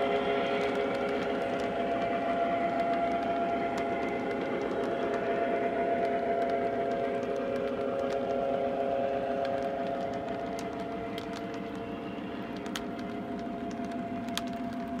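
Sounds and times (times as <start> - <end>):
constant hum: 0.0 - 15.0
model train wheels rumbling: 0.0 - 15.0
sharp clicks: 0.0 - 15.0.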